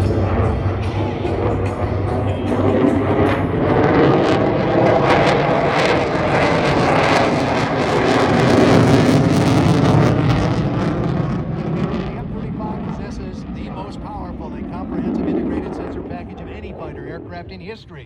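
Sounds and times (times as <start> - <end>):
fighter jet engine roar: 0.0 - 18.0.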